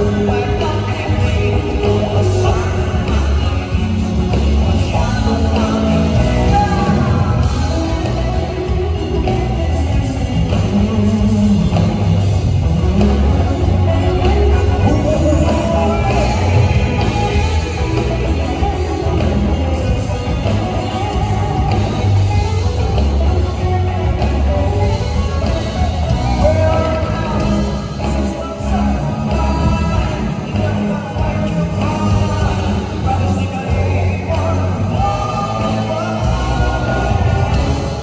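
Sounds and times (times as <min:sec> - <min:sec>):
bass guitar: 0:00.0 - 0:38.0
drum kit: 0:00.0 - 0:38.0
electric guitar: 0:00.0 - 0:38.0
person singing: 0:00.0 - 0:38.0.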